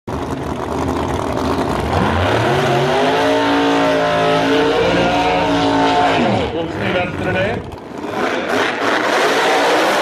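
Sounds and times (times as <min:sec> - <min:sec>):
drag racing car engine full throttle: 0:00.1 - 0:10.0.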